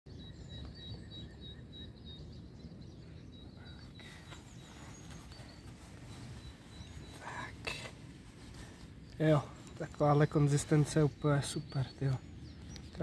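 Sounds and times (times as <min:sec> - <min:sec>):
low outdoor rumble: 0:00.1 - 0:13.0
small birds chirping: 0:00.1 - 0:13.0.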